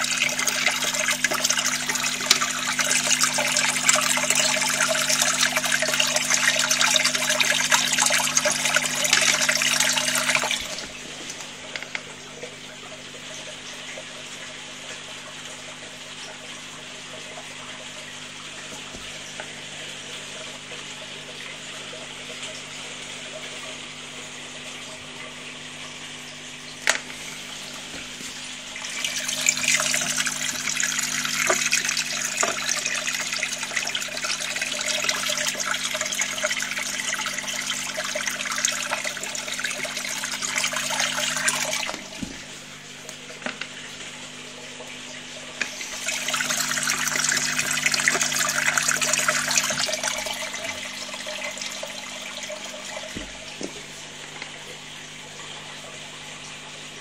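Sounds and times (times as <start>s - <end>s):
water splashing in aquarium: 0.0s - 57.0s.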